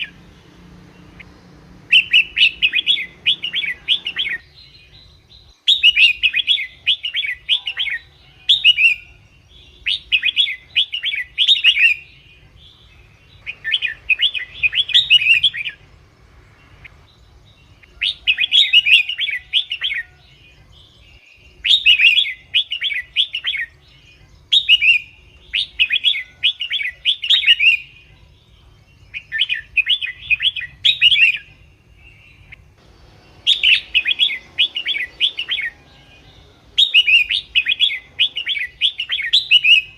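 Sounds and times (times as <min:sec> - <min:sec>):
bulbul singing chirpy phrases: 0:00.0 - 0:39.9.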